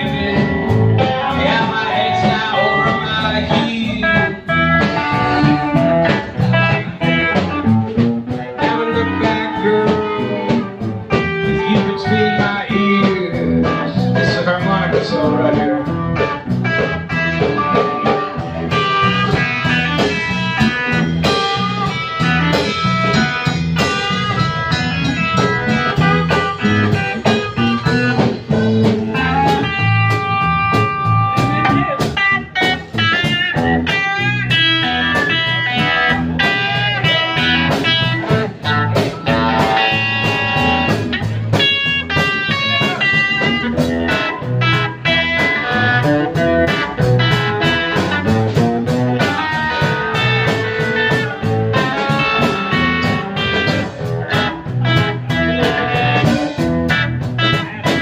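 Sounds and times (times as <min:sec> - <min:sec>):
bass guitar: 0:00.0 - 0:58.0
drum kit: 0:00.0 - 0:58.0
electric guitar lead: 0:00.0 - 0:58.0.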